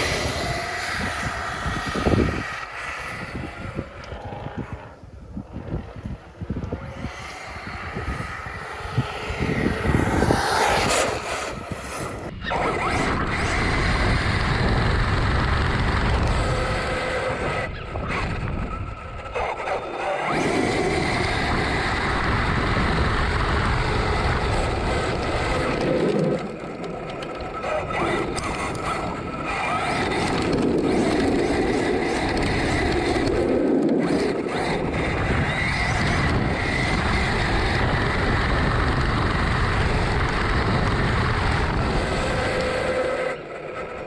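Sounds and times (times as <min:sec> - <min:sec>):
rc truck motor whine: 0:00.0 - 0:44.0.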